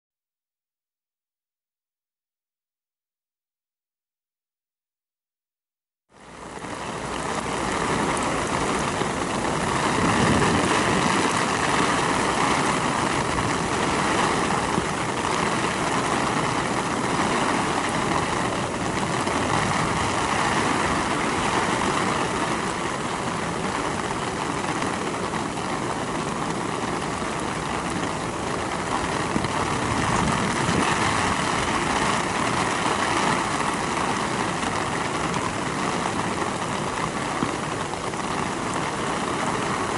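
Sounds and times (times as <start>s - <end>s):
heavy rain on grass: 6.1s - 39.9s.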